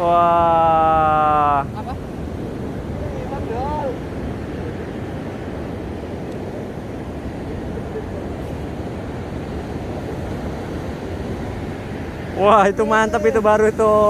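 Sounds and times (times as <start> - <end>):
ocean surf breaking on sand: 0.0 - 14.0.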